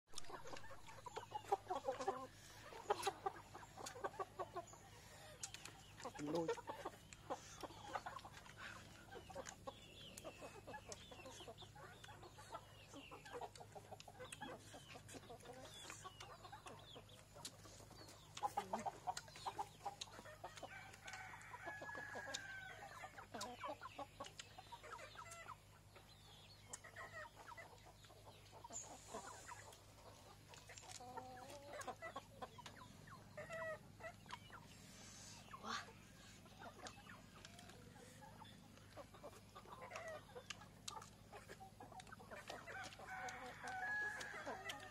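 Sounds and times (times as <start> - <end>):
chickens clucking faintly: 0.1 - 44.9
mouths chewing: 0.1 - 44.9.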